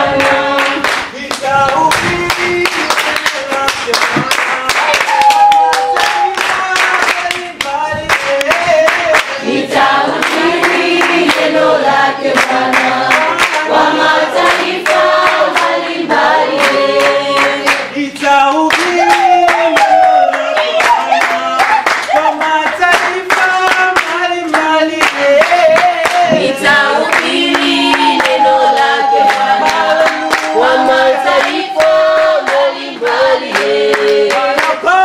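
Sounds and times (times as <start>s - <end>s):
congregation singing: 0.0s - 35.0s
hand clapping in time: 0.2s - 9.5s, 12.3s - 15.8s, 16.5s - 35.0s.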